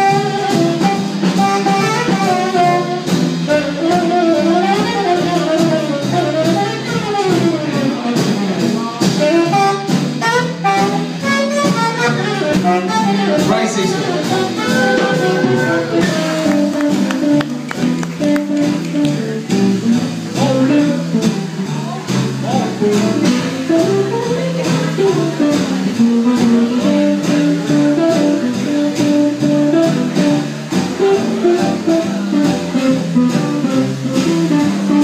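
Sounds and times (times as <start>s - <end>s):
saxophone melody: 0.0s - 7.9s, 9.2s - 19.2s, 23.2s - 35.0s
drums: 0.0s - 35.0s
guitar: 0.0s - 35.0s
upright bass: 0.0s - 35.0s.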